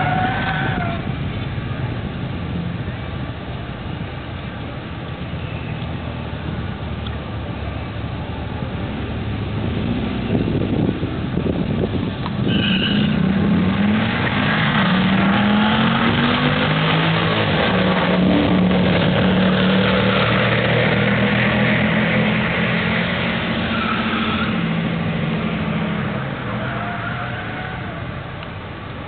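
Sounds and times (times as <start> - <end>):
car engines at full throttle: 0.0 - 29.0.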